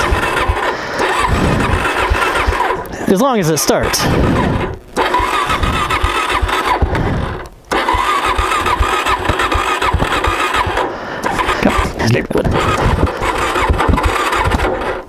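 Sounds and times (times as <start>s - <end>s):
motorcycle starter cranking engine: 0.0s - 15.0s.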